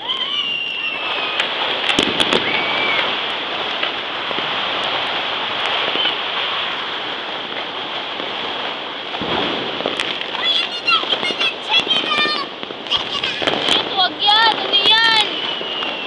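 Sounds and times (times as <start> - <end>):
fireworks crackling: 0.0 - 16.0
sharp firework cracks: 0.0 - 16.0
single firework pops: 0.5 - 6.8, 7.4 - 10.4, 12.0 - 16.0.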